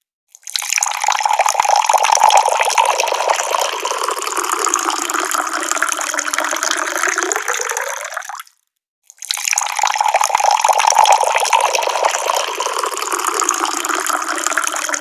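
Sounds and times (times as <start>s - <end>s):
tap water pouring and splashing: 0.3s - 15.0s.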